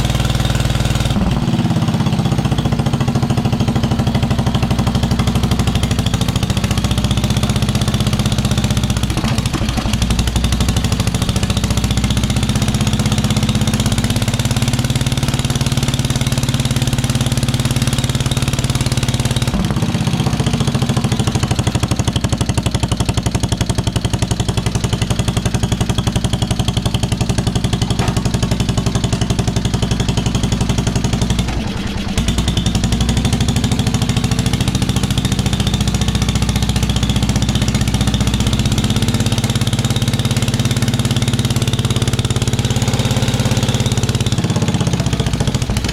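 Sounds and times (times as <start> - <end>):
lawn tractor engine running: 0.0 - 45.9.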